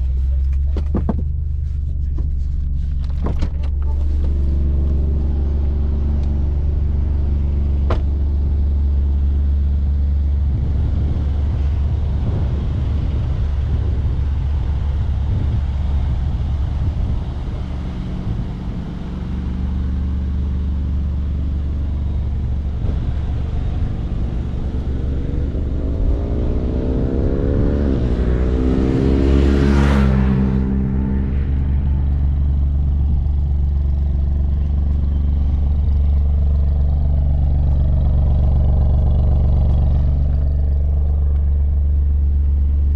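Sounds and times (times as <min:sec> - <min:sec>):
car engine revving: 0:01.6 - 0:42.9.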